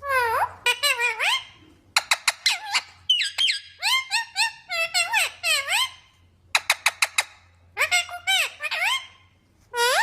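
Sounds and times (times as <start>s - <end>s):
parrot chirping and squawking: 0.0s - 10.0s.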